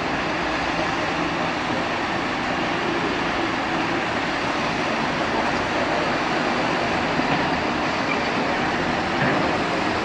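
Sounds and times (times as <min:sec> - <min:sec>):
diesel truck engine under load: 0:00.0 - 0:10.0.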